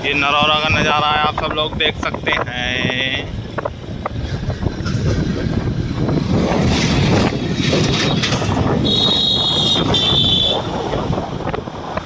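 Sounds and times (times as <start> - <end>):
vehicle road and wind noise: 0.0 - 12.0.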